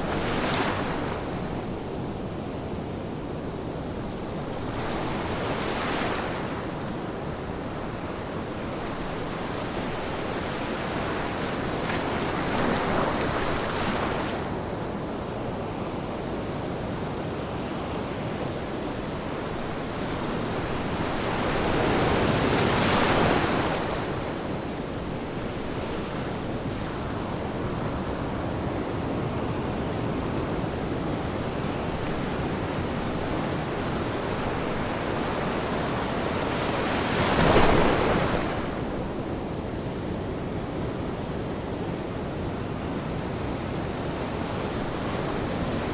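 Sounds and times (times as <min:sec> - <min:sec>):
ocean waves breaking on beach: 0:00.0 - 0:45.9.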